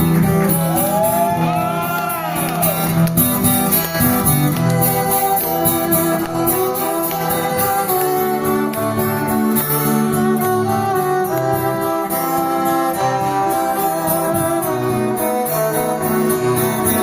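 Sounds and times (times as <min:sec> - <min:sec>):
guitar: 0:00.0 - 0:17.0
live rock band playing: 0:00.0 - 0:17.0.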